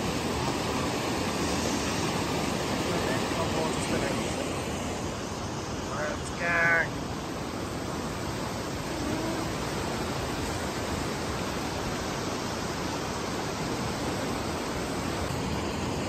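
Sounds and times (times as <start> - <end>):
river water running over rocks: 0.0 - 16.0.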